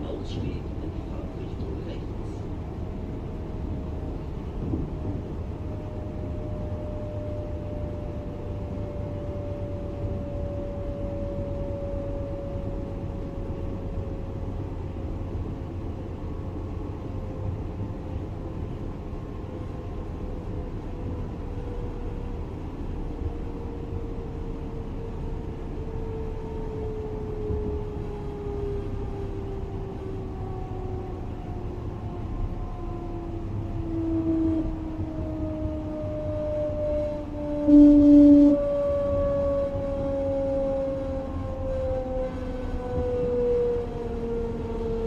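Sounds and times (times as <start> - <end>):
electric train traction whine: 0.0 - 40.4
train running gear rumble: 0.0 - 45.0.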